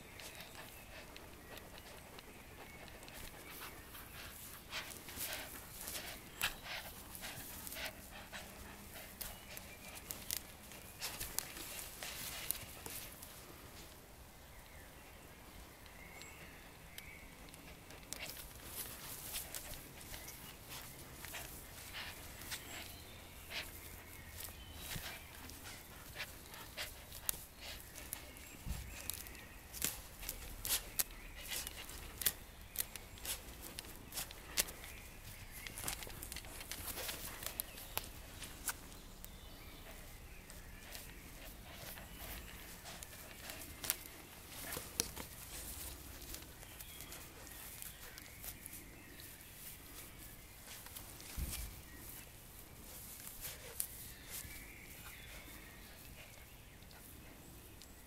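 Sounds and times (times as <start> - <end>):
feathers rustling: 0.0 - 14.0, 17.6 - 57.3.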